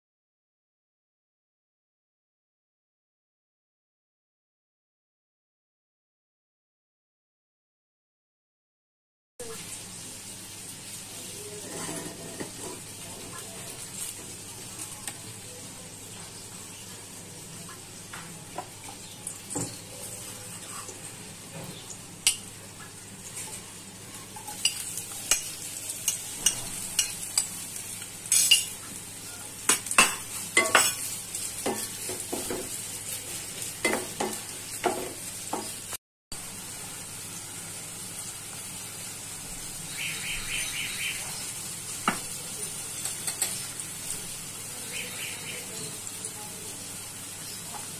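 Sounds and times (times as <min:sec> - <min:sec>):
onions sizzling in oil: 0:09.4 - 0:47.9.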